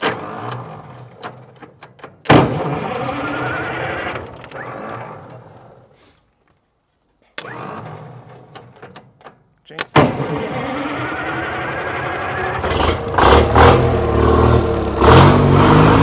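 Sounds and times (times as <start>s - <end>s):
diesel engine firing: 0.0s - 5.9s, 7.4s - 8.8s, 9.9s - 16.0s
diesel engine cranking: 0.0s - 6.0s, 7.4s - 16.0s.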